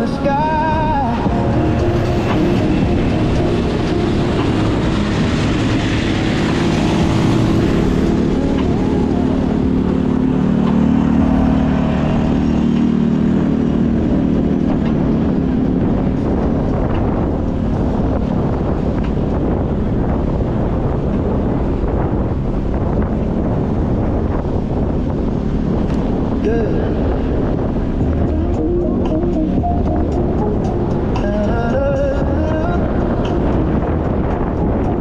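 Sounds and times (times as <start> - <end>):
road traffic noise: 0.0 - 35.0
passing vehicle engine: 0.7 - 35.0.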